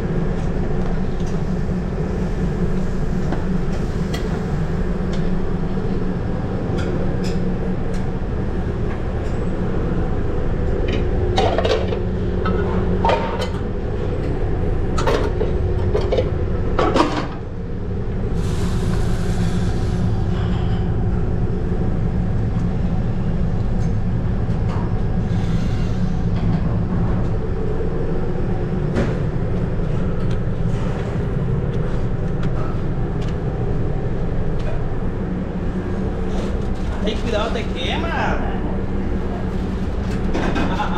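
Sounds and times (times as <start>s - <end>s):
ventilation drone: 0.0s - 40.9s.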